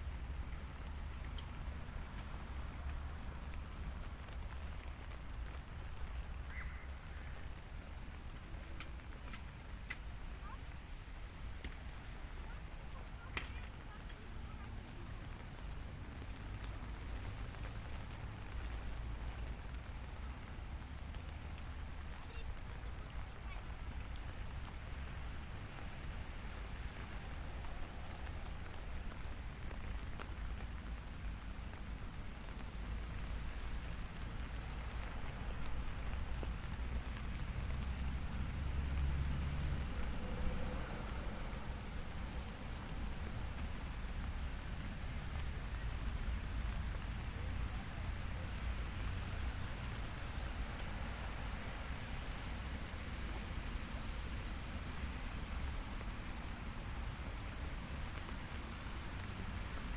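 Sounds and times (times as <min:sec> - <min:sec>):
light rain on pavement: 0:00.0 - 0:59.9
low traffic rumble: 0:00.0 - 0:59.9.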